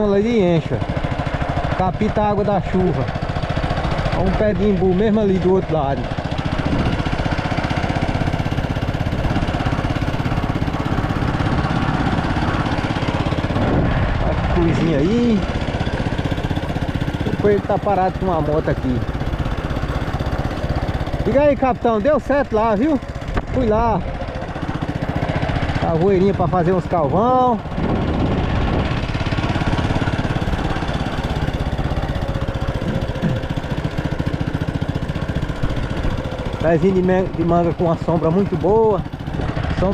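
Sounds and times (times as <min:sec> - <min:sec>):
road and wind noise: 0:00.0 - 0:39.9
small vehicle engine running: 0:00.0 - 0:39.9.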